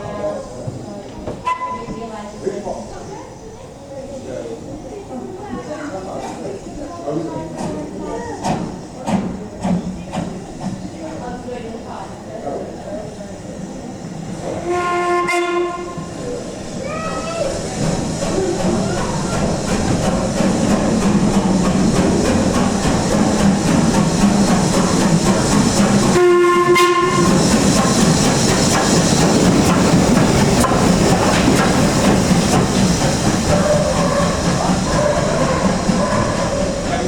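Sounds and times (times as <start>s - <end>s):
clickety-clack of rails: 0.0s - 2.2s, 5.5s - 11.8s, 14.4s - 37.0s
train wheels rumbling on rail: 0.0s - 37.0s.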